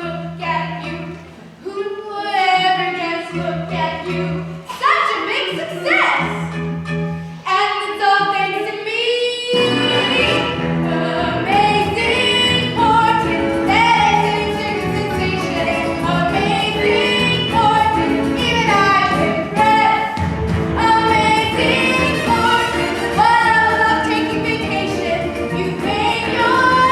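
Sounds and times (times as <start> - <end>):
show tune singing with accompaniment: 0.0 - 26.9.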